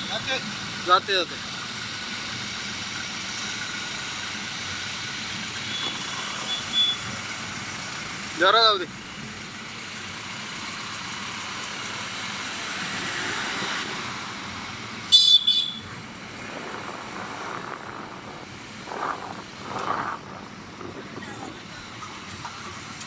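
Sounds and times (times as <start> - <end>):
vehicle passing on road: 0.0 - 23.0.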